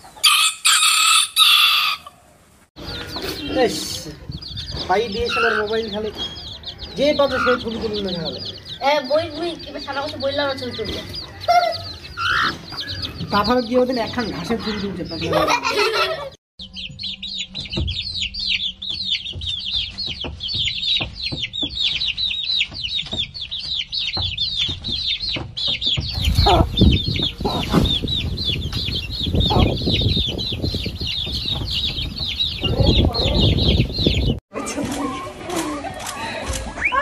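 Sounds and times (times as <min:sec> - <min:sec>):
baby chicks peeping: 0:02.8 - 0:37.0
hen clucking: 0:04.4 - 0:34.4.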